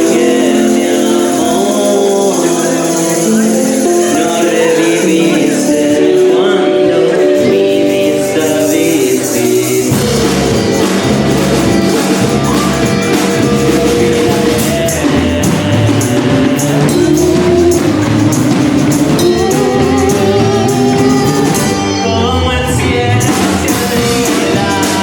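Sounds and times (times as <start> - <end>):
drum kit: 0.0 - 25.0
electric guitar: 0.0 - 25.0.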